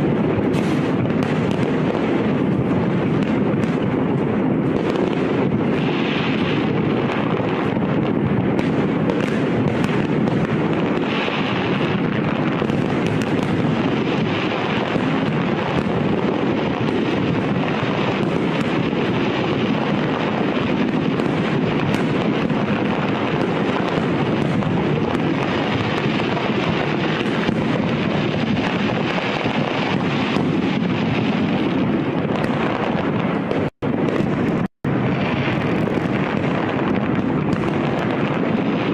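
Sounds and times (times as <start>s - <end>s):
fireworks bursts rumbling: 0.0s - 38.9s
sharp firework cracks: 0.0s - 38.9s
wind on microphone: 0.0s - 38.9s.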